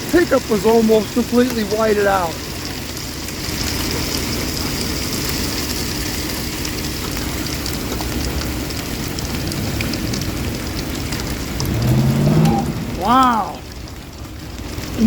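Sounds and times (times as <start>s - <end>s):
heavy rain on a vehicle: 0.0s - 15.0s.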